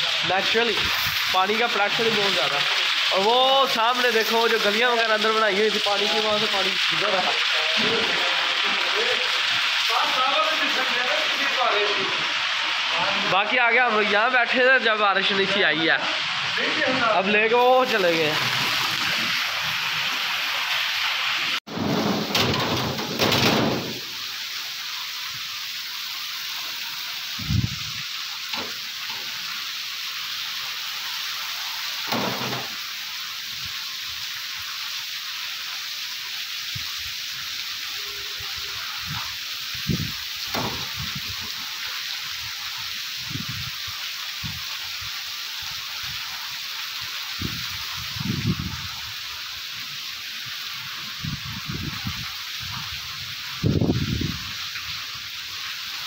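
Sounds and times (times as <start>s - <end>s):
heavy rain on concrete: 0.0s - 56.0s.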